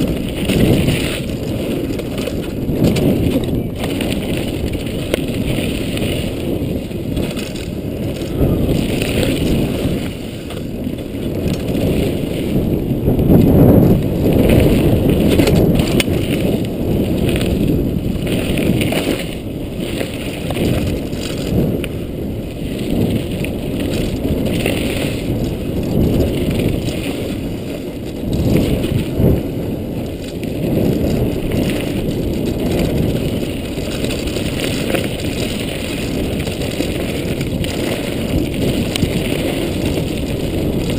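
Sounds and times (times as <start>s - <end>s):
bike knocking and rattling: 0.0s - 40.9s
tyres on dirt: 0.0s - 40.9s
wind buffeting: 0.0s - 40.9s.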